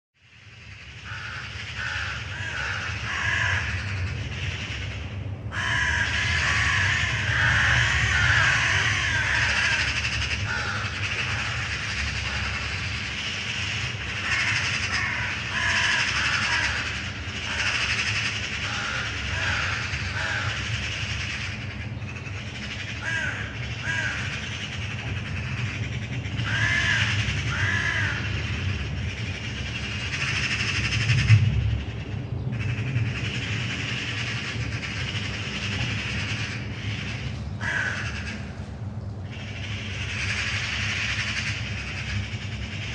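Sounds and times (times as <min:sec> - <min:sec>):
aircraft engines rumbling: 0:00.2 - 0:42.9
crows cawing: 0:00.6 - 0:42.9.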